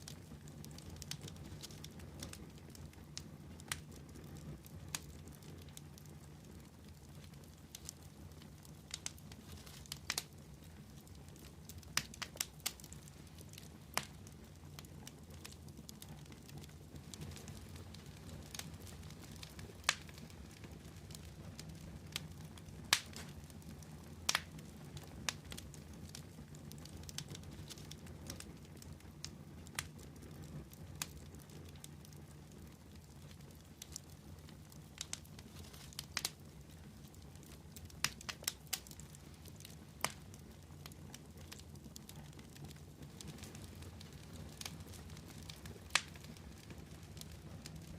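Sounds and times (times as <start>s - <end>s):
fire crackling and popping: 0.0s - 47.9s.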